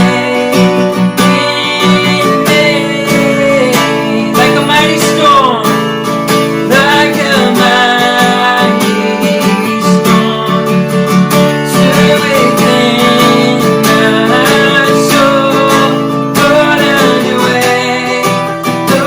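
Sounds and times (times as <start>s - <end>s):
person singing wordless melody: 0.0s - 19.0s
strummed acoustic guitar: 0.0s - 19.0s.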